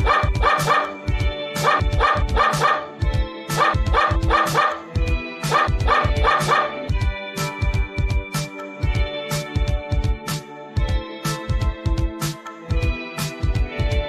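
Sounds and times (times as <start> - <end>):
upbeat instrumental music: 0.0 - 14.0.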